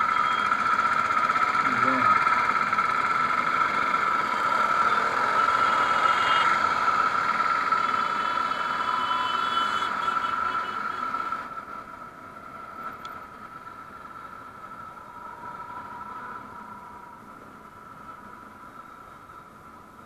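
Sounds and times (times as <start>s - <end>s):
motorcycle engine running: 0.0s - 16.1s
high-pitched whine: 0.0s - 20.0s.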